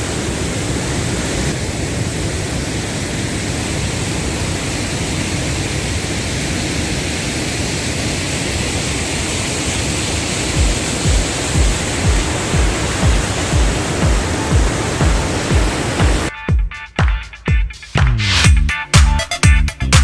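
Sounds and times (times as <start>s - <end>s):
waterfall rushing: 0.0s - 16.3s.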